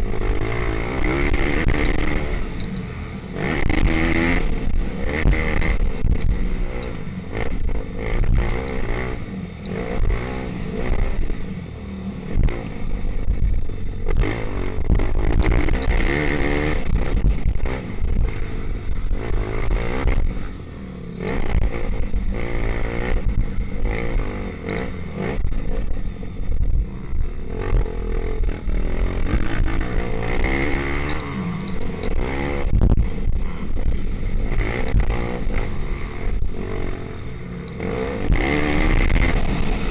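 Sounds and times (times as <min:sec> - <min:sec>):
motorbike engines revving: 0:00.0 - 0:39.9.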